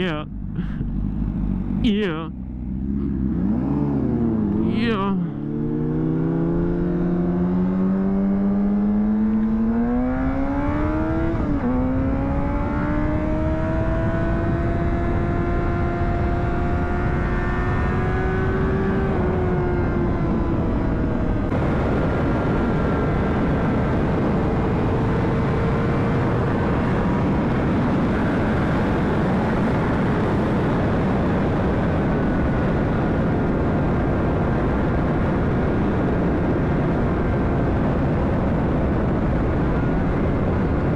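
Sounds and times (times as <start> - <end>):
motorcycle engine accelerating: 0.0 - 40.9
wind rush on microphone: 3.2 - 40.9.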